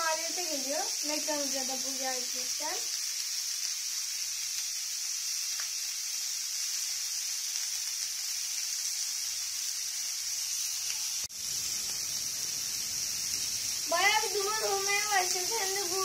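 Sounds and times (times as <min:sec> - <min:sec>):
burger patties sizzling on grill: 0:00.0 - 0:16.0.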